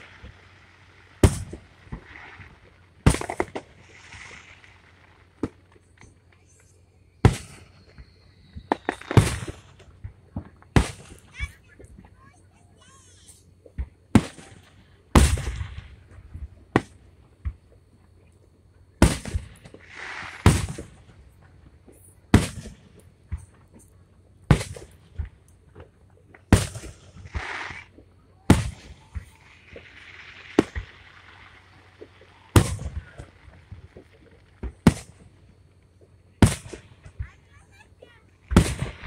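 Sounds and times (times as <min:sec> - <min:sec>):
firework crackle: 0:00.0 - 0:39.0
firework shells bursting: 0:00.0 - 0:39.0.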